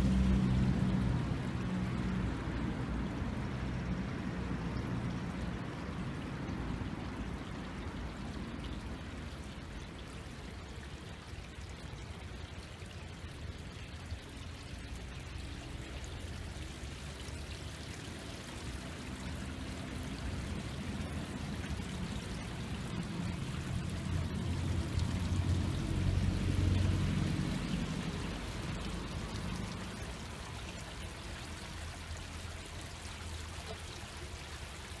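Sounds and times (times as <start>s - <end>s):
brook trickling and splashing: 0.0s - 35.0s.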